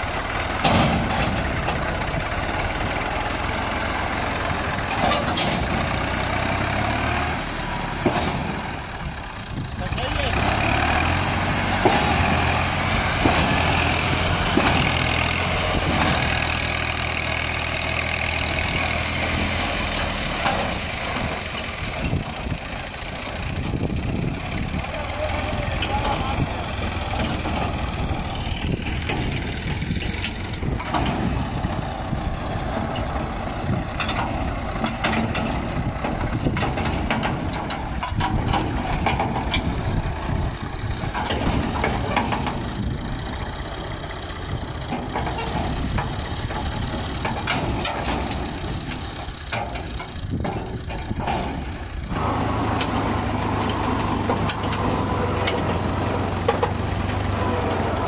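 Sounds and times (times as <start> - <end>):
tractor engine running: 0.0 - 58.0
thresher mechanical din: 0.1 - 58.0.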